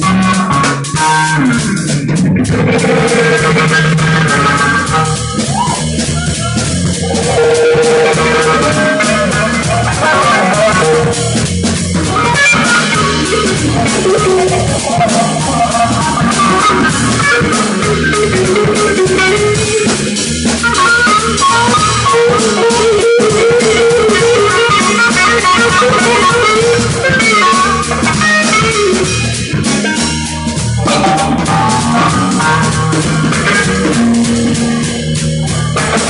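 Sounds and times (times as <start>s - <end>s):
drum kit: 0.0s - 36.0s
electric guitar lines: 0.0s - 36.0s.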